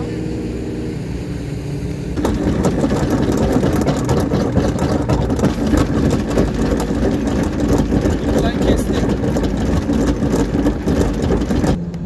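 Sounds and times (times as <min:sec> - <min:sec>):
engine rattling roughly: 0:02.2 - 0:11.9.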